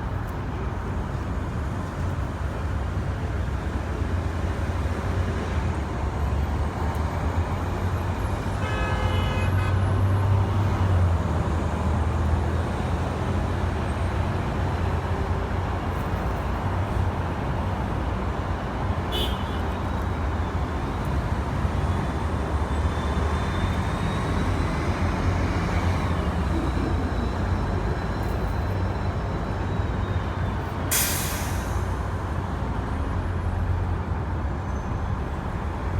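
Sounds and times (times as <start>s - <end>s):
road traffic rumble: 0.0s - 35.9s.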